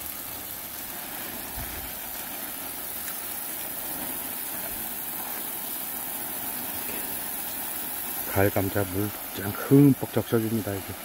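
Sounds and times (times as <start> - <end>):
hose water splashing on plastic: 0.0 - 11.0.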